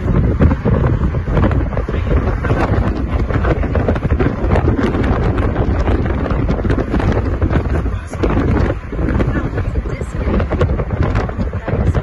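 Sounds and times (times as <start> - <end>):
road noise rumble: 0.0 - 12.0
wind buffeting microphone: 0.0 - 12.0.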